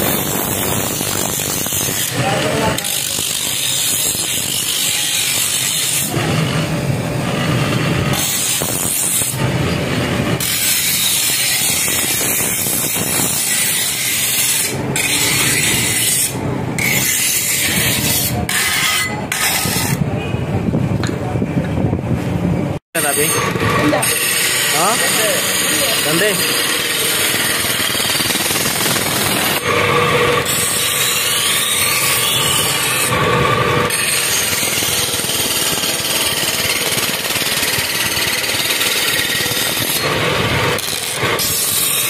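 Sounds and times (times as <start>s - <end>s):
rasping metal scraping: 0.0s - 20.1s, 23.0s - 42.0s.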